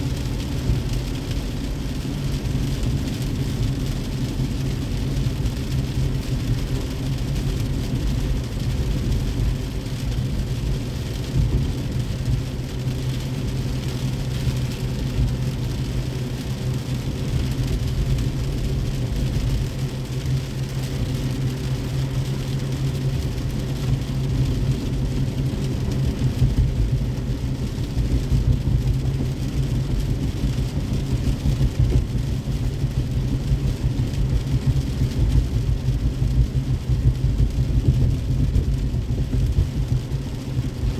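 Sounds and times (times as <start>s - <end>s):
car engine and road rumble: 0.0s - 40.9s
rain and wet tyres hiss: 0.0s - 40.9s.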